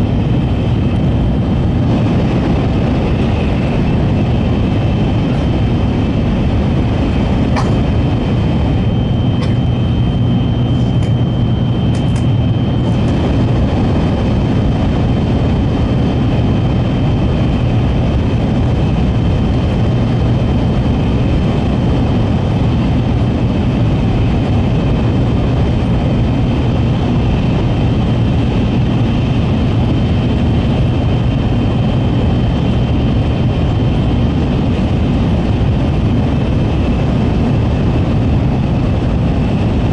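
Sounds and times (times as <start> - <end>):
train rumble and whine: 0.0 - 39.9.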